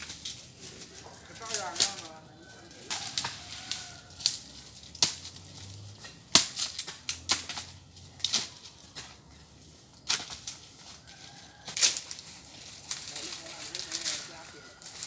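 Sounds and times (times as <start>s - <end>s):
dry bamboo cracking and snapping: 0.0s - 15.0s.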